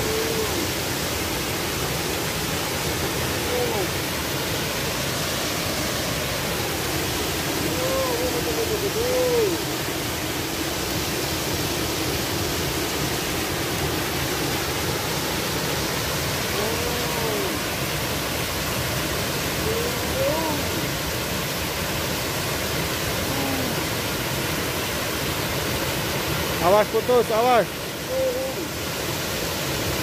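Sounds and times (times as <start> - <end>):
waterfall pouring over rocks: 0.0 - 30.0.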